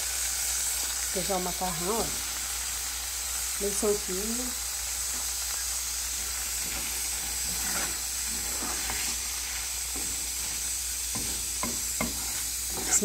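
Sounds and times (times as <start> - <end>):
sauce sizzling in pot: 0.0 - 13.0.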